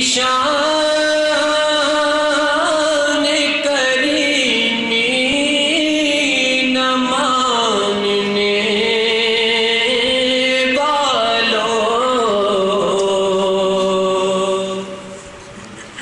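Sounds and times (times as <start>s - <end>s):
man singing devotional song: 0.0s - 15.2s.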